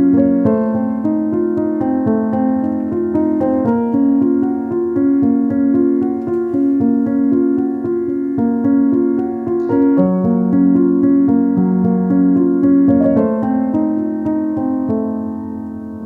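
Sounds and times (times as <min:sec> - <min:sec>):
slow keyboard chords: 0:00.0 - 0:16.0.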